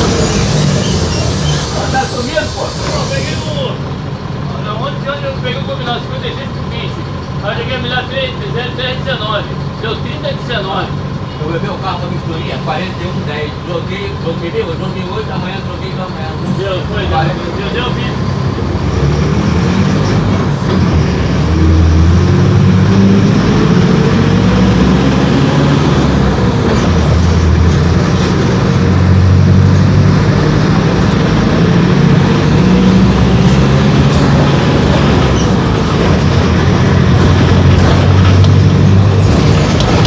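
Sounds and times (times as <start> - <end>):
bus diesel engine accelerating: 0.0 - 40.0.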